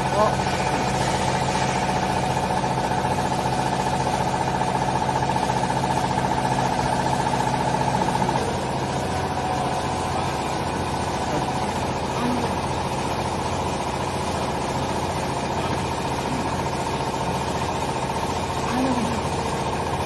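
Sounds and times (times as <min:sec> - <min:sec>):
hydraulic motor and pump hum: 0:00.0 - 0:20.0
pump whine: 0:00.0 - 0:20.0.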